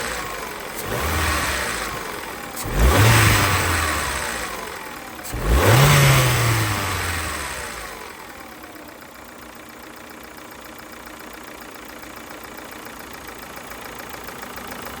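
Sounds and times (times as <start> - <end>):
car engine revving and idling: 0.0 - 15.0
engine ticking and rattling: 0.0 - 15.0.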